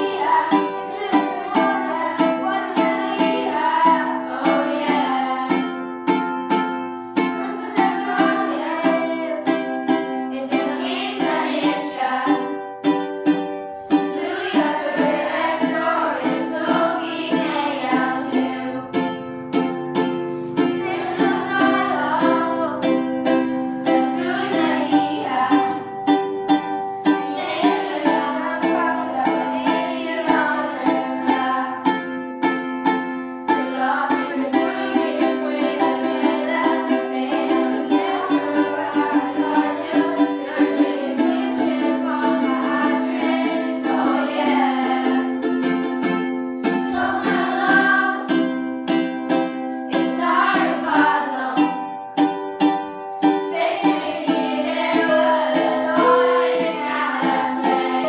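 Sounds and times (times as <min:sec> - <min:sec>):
girls singing: 0:00.0 - 0:58.0
ukulele strumming: 0:00.0 - 0:58.0.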